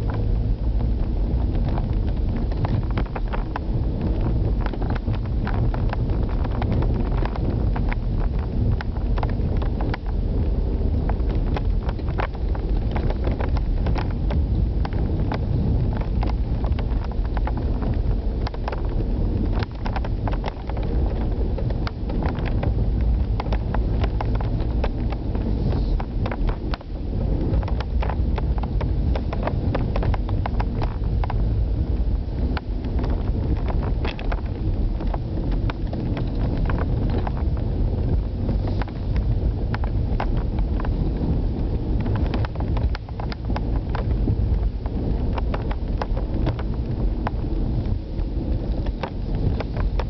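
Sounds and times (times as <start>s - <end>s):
car engine and road noise: 0.0s - 50.0s
knocks and rattles on rough road: 0.0s - 50.0s.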